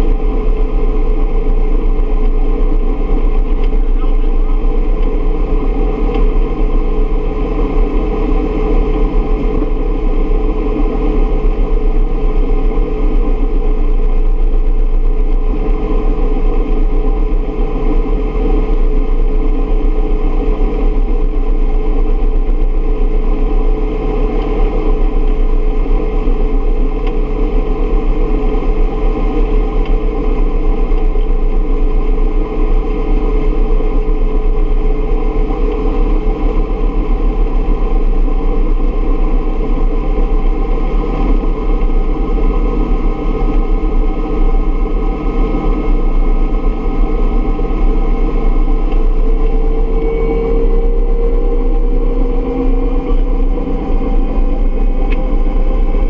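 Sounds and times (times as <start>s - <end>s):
helicopter cabin noise: 0.0s - 23.4s, 24.2s - 56.0s.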